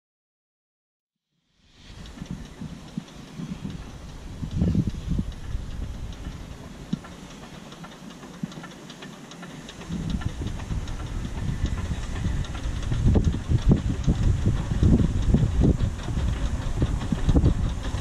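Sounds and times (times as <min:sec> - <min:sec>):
steam hiss: 0:01.6 - 0:18.0
steam locomotive rumble: 0:01.7 - 0:18.0
faint clicking: 0:01.8 - 0:18.0.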